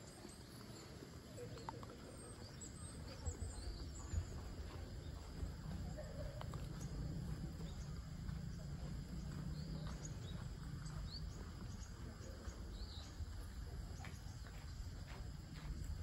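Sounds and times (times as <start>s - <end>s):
steady low rumble: 2.1s - 16.0s.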